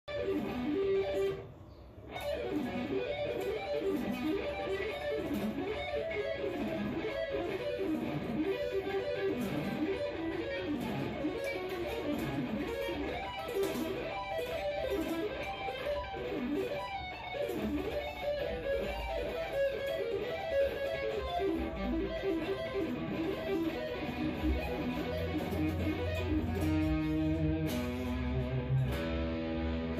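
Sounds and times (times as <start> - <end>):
electric guitar arpeggios: 0.0 - 29.9.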